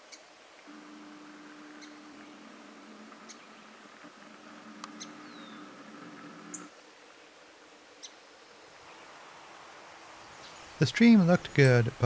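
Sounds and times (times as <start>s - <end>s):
faint steady hum: 0.0s - 12.0s
small birds chirping: 1.0s - 12.0s.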